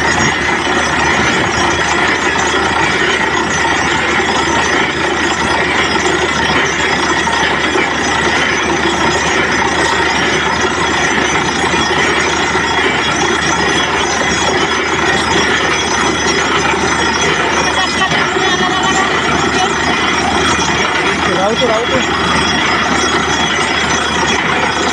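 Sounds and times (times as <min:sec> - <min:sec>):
drilling rig running: 0:00.0 - 0:24.9.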